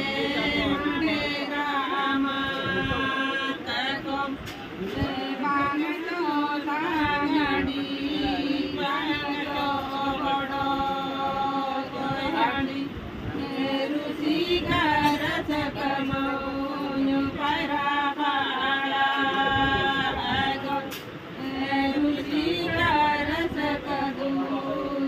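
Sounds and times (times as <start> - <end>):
women singing together: 0.0 - 25.0.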